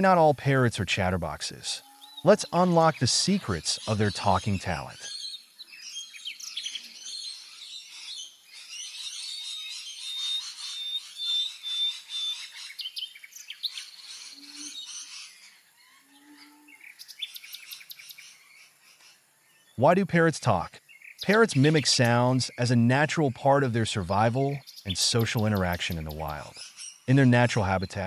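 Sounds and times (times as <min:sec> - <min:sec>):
birds chirping and calling: 0:00.0 - 0:16.0, 0:19.8 - 0:28.0.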